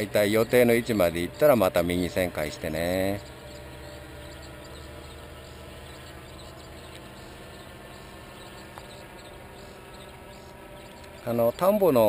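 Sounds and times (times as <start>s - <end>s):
distant paramotor engine drone: 0.0s - 12.0s.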